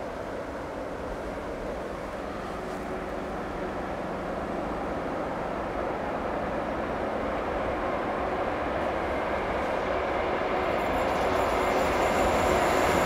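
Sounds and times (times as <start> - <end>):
distant train rumble: 0.0 - 13.0.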